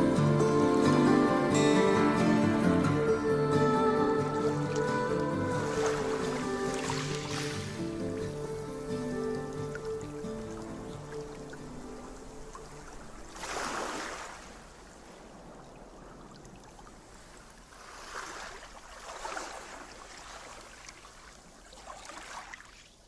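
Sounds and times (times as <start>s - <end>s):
ocean waves washing in: 0.0s - 22.6s.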